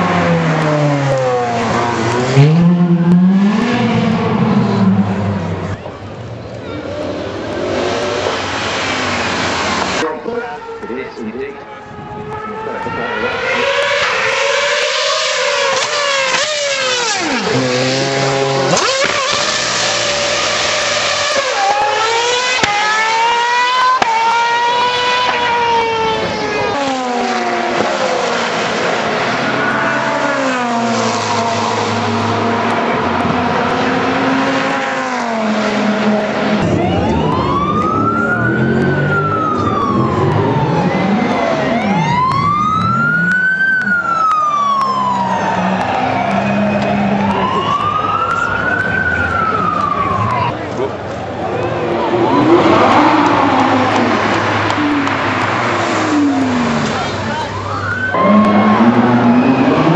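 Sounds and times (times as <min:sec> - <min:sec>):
supercar engine accelerating: 0:00.0 - 0:10.9, 0:11.6 - 0:59.9.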